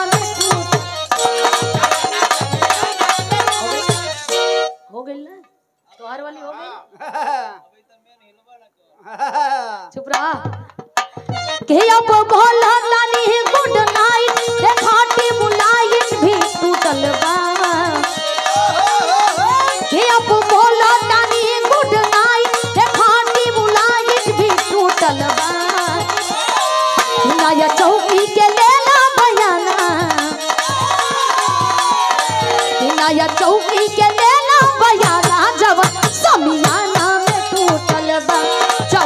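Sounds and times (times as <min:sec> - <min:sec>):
hand drum beating: 0:00.0 - 0:04.4, 0:10.1 - 0:39.0.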